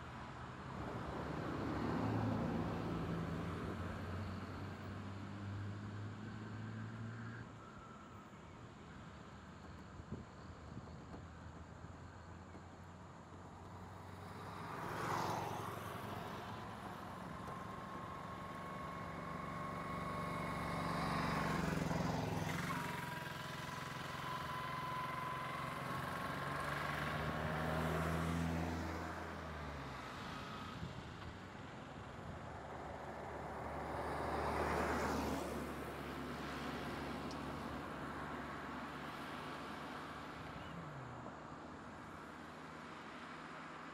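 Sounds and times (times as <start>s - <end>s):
vehicles driving past: 0.0s - 43.9s
engine whine: 0.7s - 43.9s.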